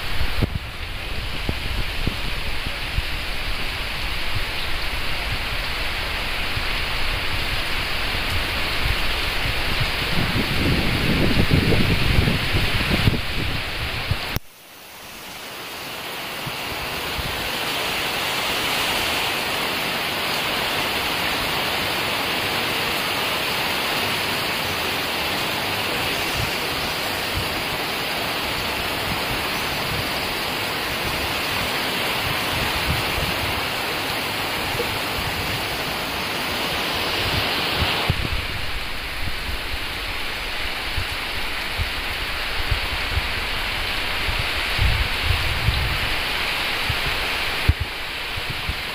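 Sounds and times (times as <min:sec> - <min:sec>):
wind gusting on microphone: 0:00.0 - 0:14.5, 0:15.4 - 0:48.9
heavy rain pouring: 0:00.0 - 0:48.9.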